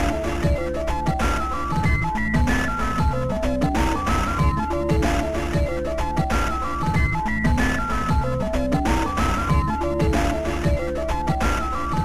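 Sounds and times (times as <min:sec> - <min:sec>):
electronic music with drum beat: 0:00.0 - 0:12.0.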